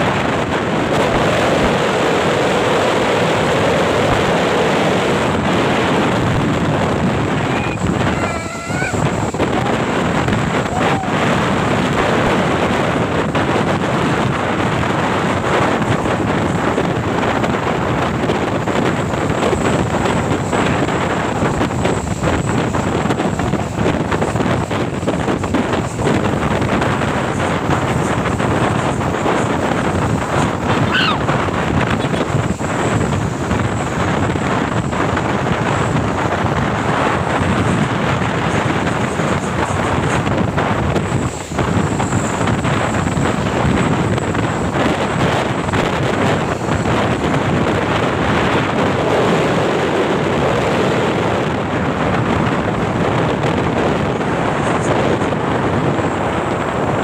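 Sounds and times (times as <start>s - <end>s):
road vehicle noise: 0.0s - 57.0s
wind rushing across microphone: 0.0s - 57.0s.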